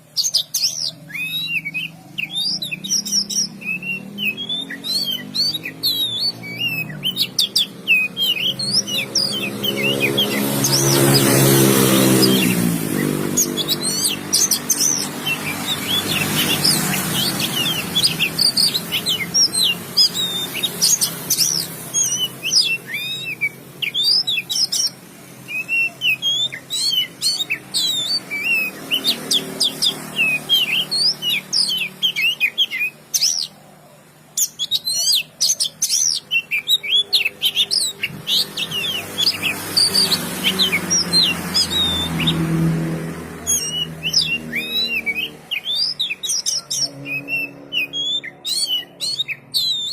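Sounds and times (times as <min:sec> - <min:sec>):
magpie-robin singing: 0:00.0 - 0:49.9.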